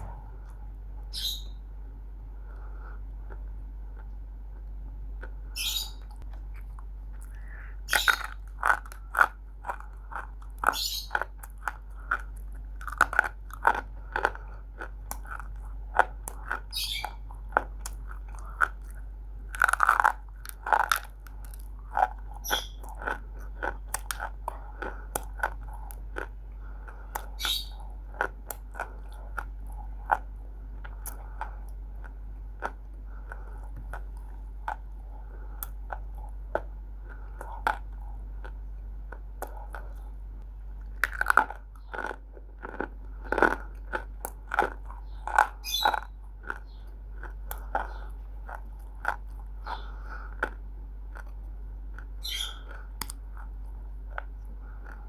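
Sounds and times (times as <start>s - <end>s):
crunchy clay being chewed: 2.4s - 55.0s.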